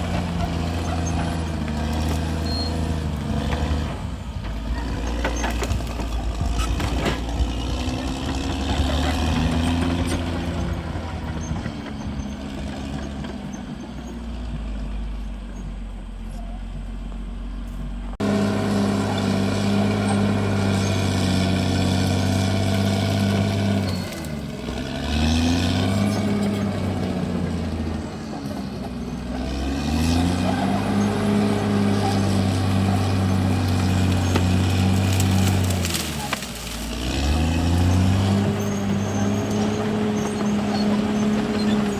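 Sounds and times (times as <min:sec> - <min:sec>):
bulldozer diesel engine under load: 0:00.0 - 0:41.9.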